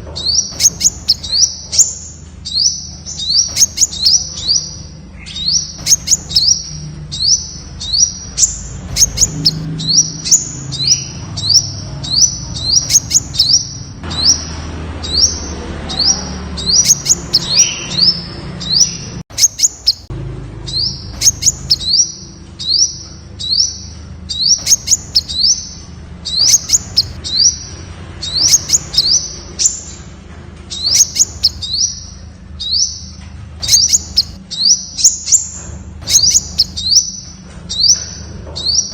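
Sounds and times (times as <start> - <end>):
bird singing high notes: 0.2 - 20.1, 20.7 - 30.0, 30.7 - 38.0.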